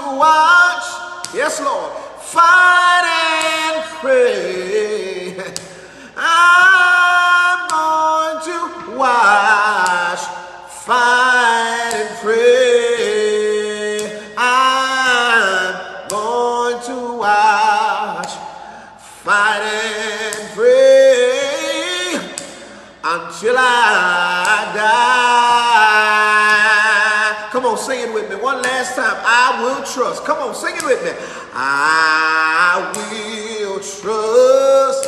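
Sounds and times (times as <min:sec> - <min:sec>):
man singing unaccompanied: 0:00.0 - 0:35.0.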